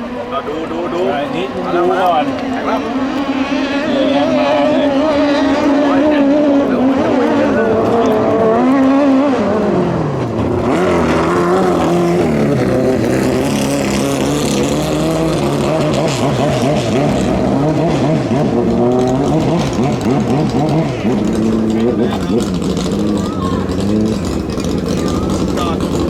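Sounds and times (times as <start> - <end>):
boat engine at high revs: 0.0 - 26.0.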